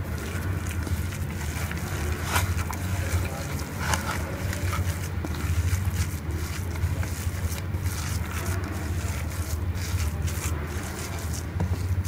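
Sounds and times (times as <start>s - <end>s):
soft squelches and scrapes: 0.0s - 12.0s
steady low hum: 0.0s - 12.0s.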